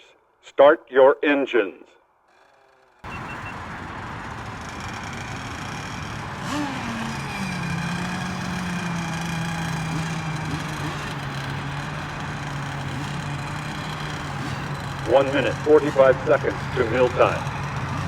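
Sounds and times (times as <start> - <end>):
model boat engines running: 2.4 - 18.0.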